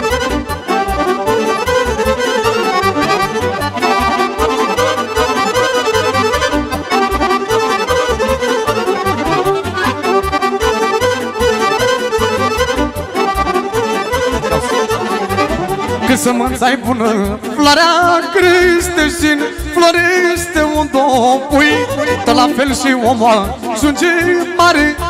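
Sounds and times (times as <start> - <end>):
accordion fast melody: 0.0 - 25.0
keyboard bass beat: 0.0 - 25.0.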